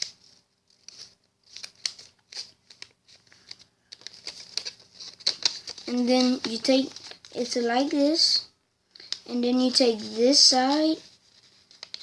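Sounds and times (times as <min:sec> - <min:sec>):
paper rustling and crinkling: 0:00.0 - 0:08.0, 0:08.9 - 0:12.0.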